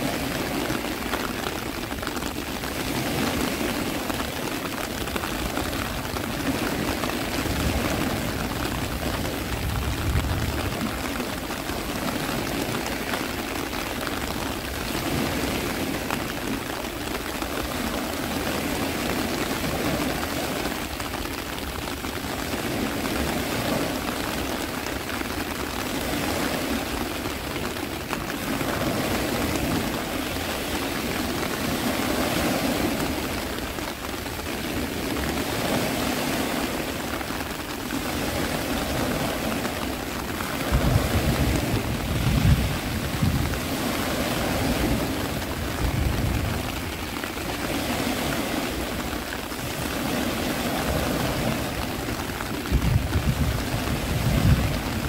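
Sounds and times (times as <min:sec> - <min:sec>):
rain: 0:00.0 - 0:55.0
sea surf: 0:00.0 - 0:55.0.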